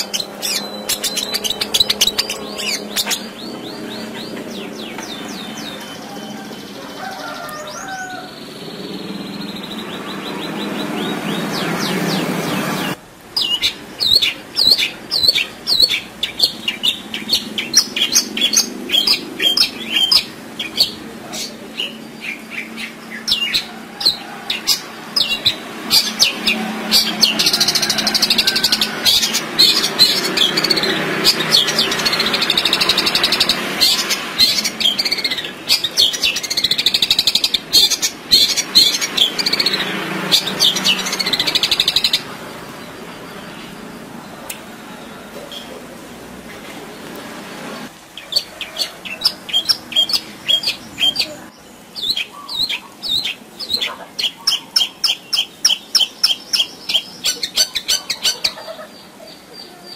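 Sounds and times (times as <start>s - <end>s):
bird singing varied song: 0.0s - 45.8s, 46.8s - 59.9s.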